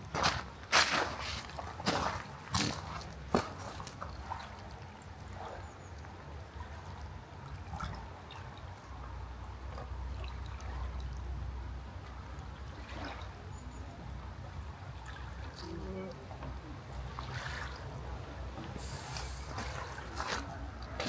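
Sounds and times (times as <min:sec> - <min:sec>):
lake water lapping: 0:00.0 - 0:21.0.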